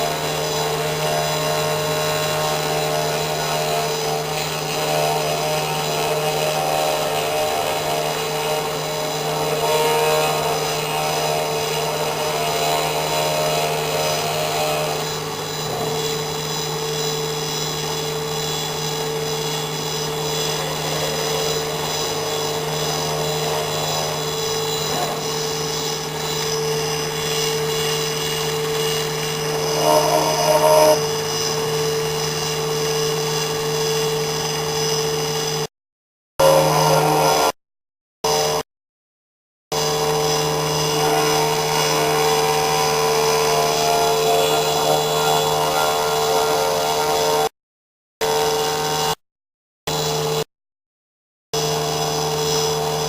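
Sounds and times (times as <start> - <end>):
engraving machine motor whine: 0.0 - 35.7, 36.4 - 37.6, 38.3 - 38.6, 39.7 - 47.5, 48.2 - 49.2, 49.9 - 50.5, 51.6 - 53.0.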